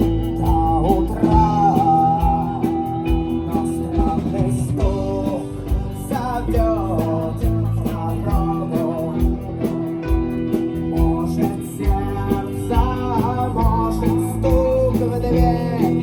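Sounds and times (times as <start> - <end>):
drums: 0.0 - 16.0
electric guitar: 0.0 - 16.0
person singing: 0.0 - 16.0.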